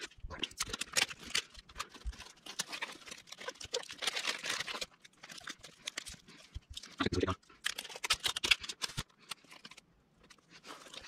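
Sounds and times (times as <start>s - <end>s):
plastic straws and tape rustling: 0.0s - 11.0s.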